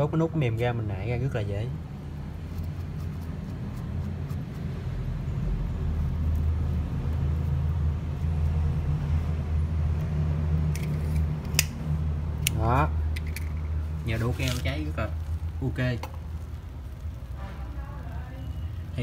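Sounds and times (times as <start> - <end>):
low mechanical hum: 0.9 - 19.0.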